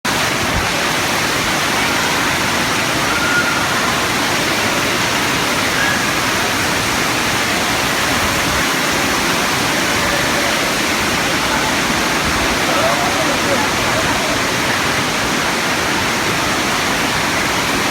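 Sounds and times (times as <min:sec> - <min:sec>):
heavy rain: 0:00.1 - 0:17.9.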